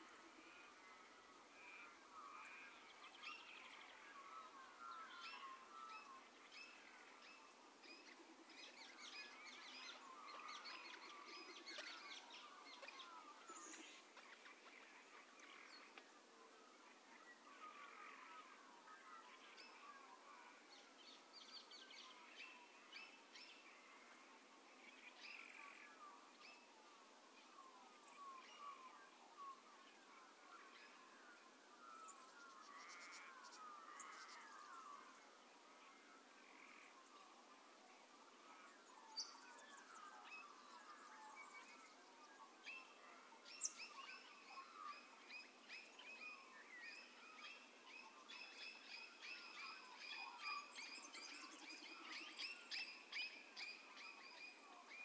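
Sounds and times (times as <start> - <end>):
birds chirping and trilling: 0.0 - 55.0.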